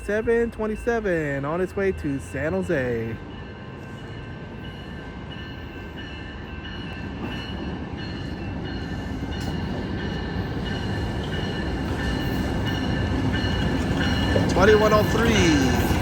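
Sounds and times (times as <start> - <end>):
diesel train rumble: 0.0 - 16.0.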